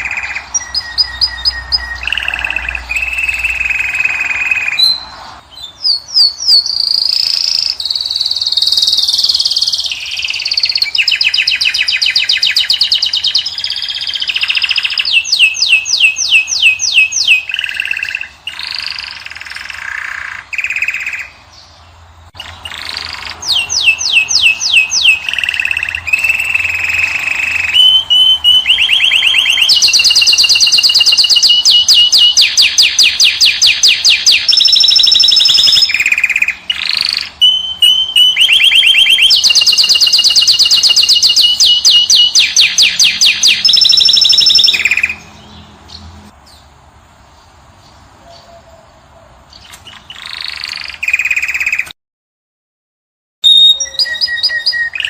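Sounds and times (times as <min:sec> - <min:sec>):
finch song: 0:00.0 - 0:52.0, 0:53.4 - 0:55.0.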